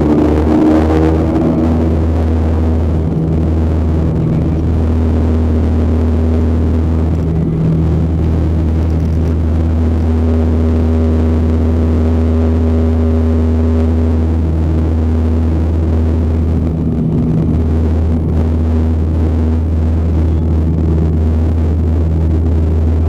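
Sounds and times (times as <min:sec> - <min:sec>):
turboprop engines droning: 0:00.0 - 0:23.0.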